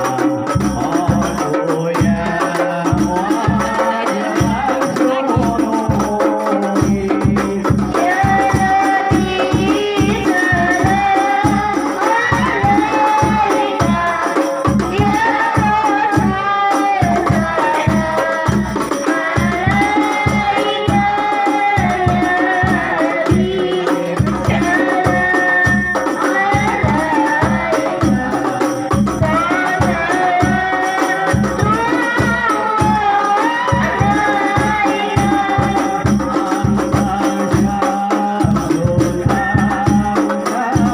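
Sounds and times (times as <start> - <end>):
devotional song singing: 0.0 - 40.9
frame drums with jingles: 0.0 - 40.9.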